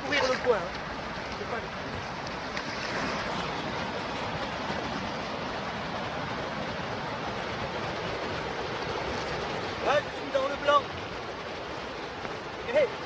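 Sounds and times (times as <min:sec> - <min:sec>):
water splashing around legs: 0:00.0 - 0:12.8
river rushing: 0:00.0 - 0:13.0.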